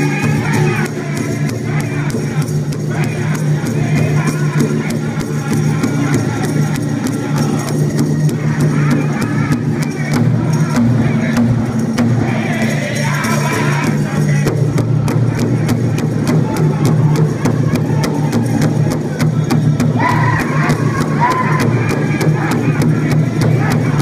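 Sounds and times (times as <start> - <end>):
people singing: 0.0 - 24.0
steady drumbeat on large drum: 0.0 - 24.0.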